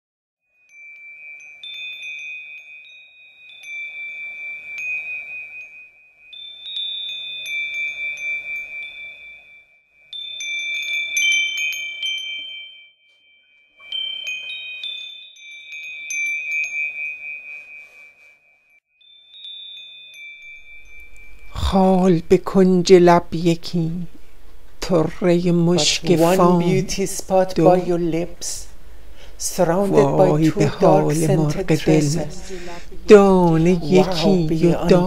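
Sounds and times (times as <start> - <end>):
wind chimes ringing: 0.6 - 35.0.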